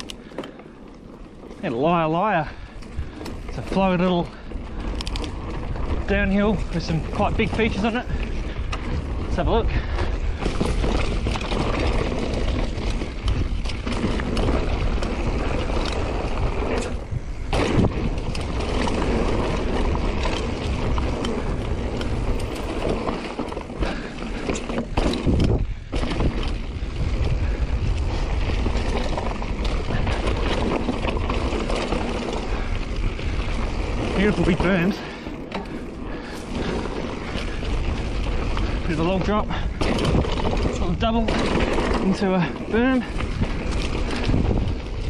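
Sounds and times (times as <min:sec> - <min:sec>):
bike rattling and knocking: 0:00.0 - 0:45.0
tyre and wind rush: 0:00.0 - 0:45.0.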